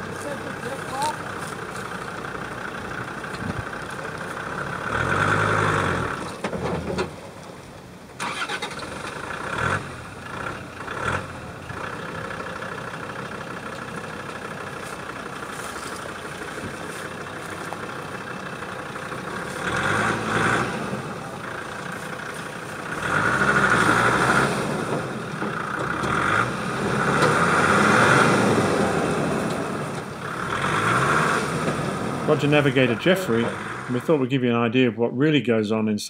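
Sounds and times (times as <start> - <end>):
engine running and revving: 0.0 - 7.1, 8.2 - 34.2.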